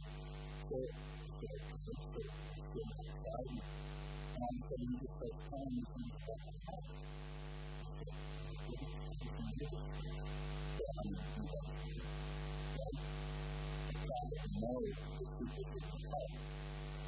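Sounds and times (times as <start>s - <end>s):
buzzing mains hum: 0.0s - 17.0s.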